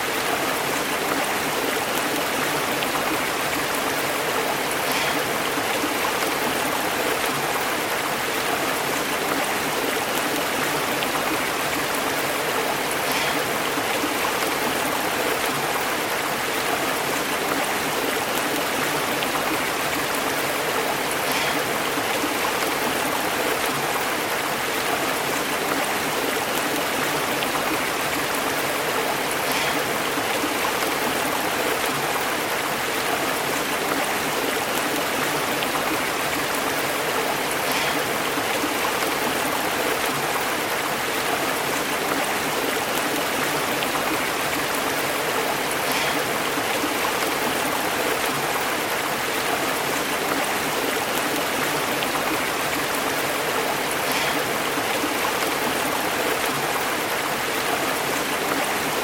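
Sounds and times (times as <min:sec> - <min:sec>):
stream burbling over rocks: 0:00.0 - 0:59.0.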